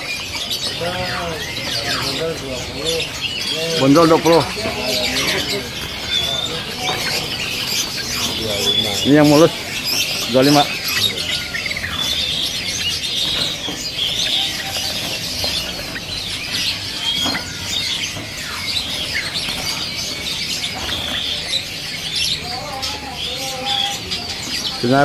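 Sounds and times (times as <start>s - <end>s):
birds flapping wings: 0.0s - 23.7s
high bird chirping: 0.0s - 25.0s.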